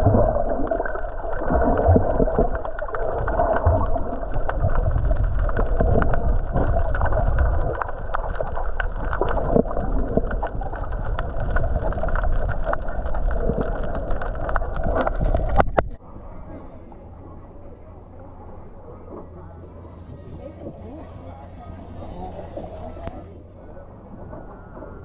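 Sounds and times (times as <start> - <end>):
underwater clicks and crackles: 0.0 - 16.0, 19.1 - 25.0
underwater rush of water: 0.0 - 16.2, 18.6 - 25.0.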